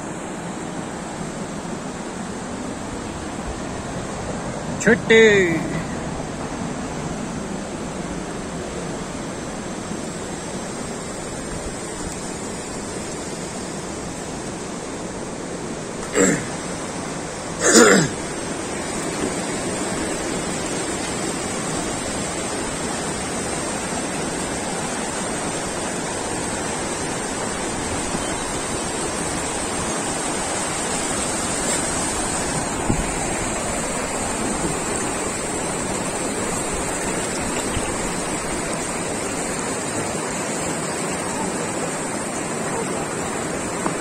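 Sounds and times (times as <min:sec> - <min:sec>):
stream rushing over stones: 0:00.0 - 0:44.0.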